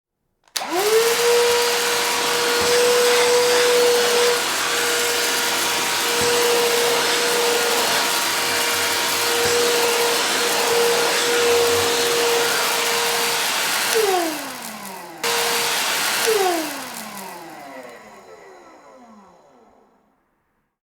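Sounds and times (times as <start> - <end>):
vacuum cleaner motor whine: 0.5 - 20.5.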